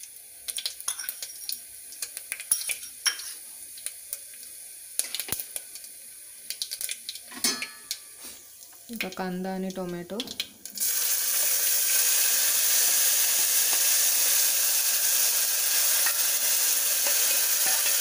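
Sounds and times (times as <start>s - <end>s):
seeds sizzling and popping in oil: 0.0s - 18.0s.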